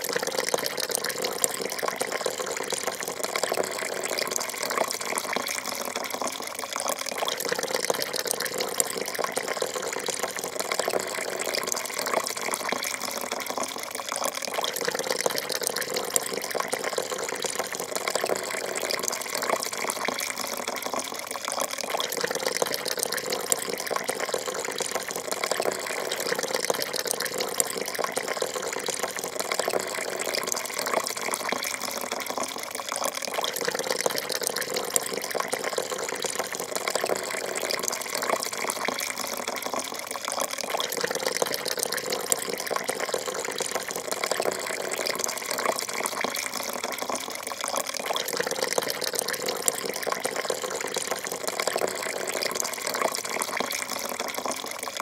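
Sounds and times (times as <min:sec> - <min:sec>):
coffee pouring into a cup: 0:00.0 - 0:55.0.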